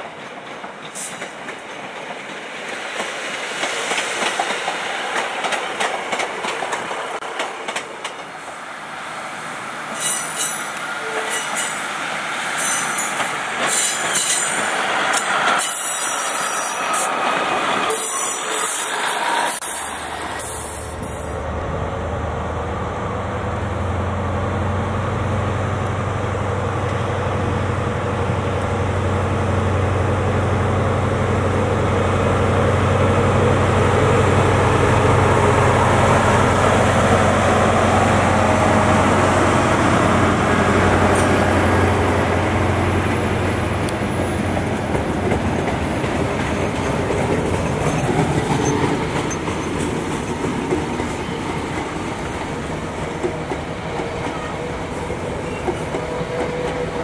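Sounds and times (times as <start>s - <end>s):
train wheels rolling on track: 0.0s - 57.0s.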